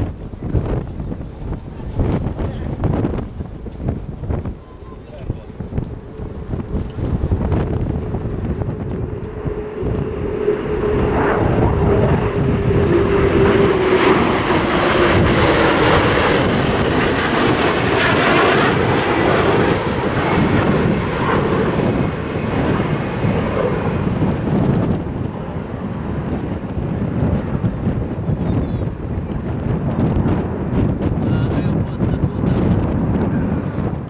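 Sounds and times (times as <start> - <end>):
jet aircraft engine roar: 0.0 - 34.0.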